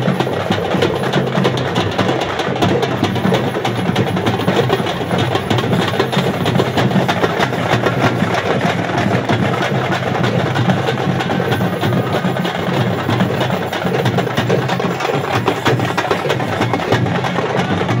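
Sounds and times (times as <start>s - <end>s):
dense crowd din: 0.0s - 18.0s
large drums beaten fast: 0.0s - 18.0s.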